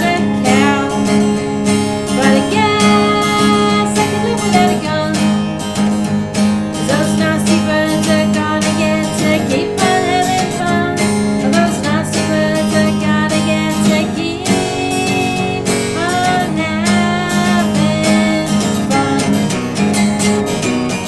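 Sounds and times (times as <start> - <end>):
person singing: 0.0 - 20.4
acoustic guitar strumming: 0.0 - 21.0.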